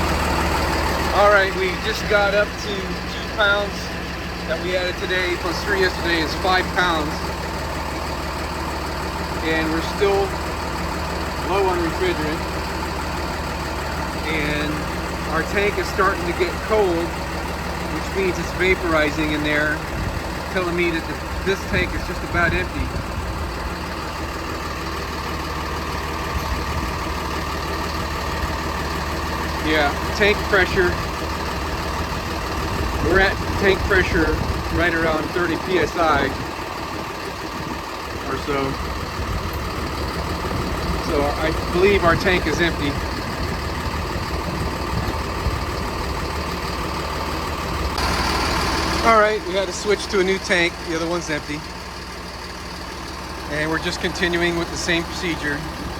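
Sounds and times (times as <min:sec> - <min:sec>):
bus engine idling: 0:00.0 - 0:55.9.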